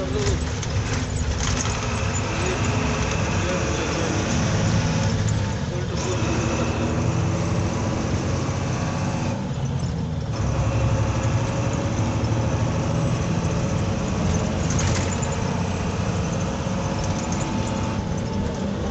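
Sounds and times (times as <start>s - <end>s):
road and wind noise: 0.0s - 18.9s
truck engine running: 0.0s - 18.9s.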